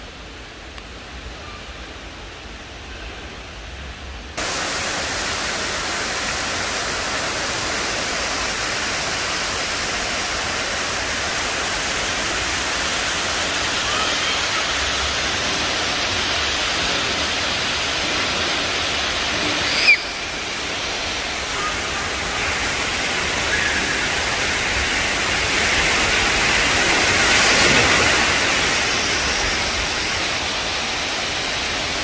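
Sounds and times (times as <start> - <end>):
outdoor background noise: 0.0 - 32.0
water spraying and splashing: 4.4 - 32.0.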